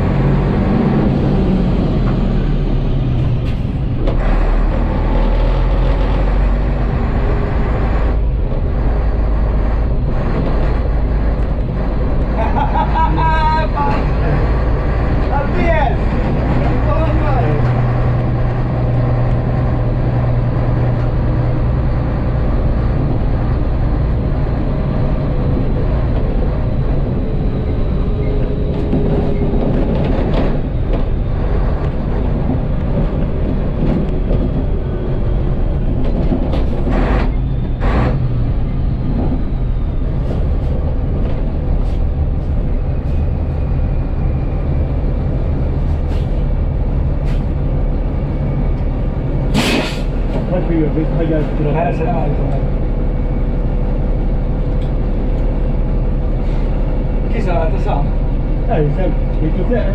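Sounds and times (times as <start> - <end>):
truck diesel engine drone: 0.0 - 59.9.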